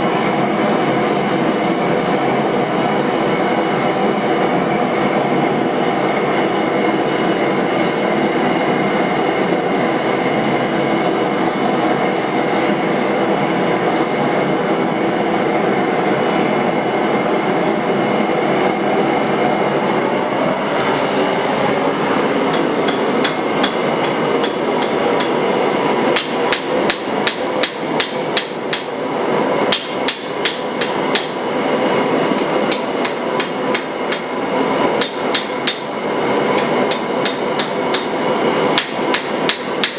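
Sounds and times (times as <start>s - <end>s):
steady workshop roar: 0.0s - 39.9s.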